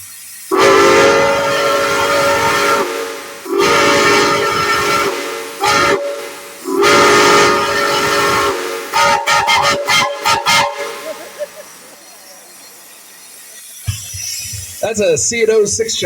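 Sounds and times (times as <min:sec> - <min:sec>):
short whistle toots: 0:00.1 - 0:15.0
steam railroad whistle chord: 0:00.5 - 0:13.7.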